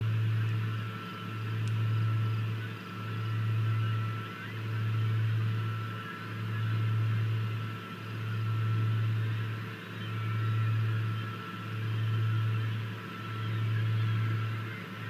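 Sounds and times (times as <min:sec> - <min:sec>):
faint high whine: 0:00.0 - 0:15.0
low mechanical hum: 0:00.0 - 0:15.0.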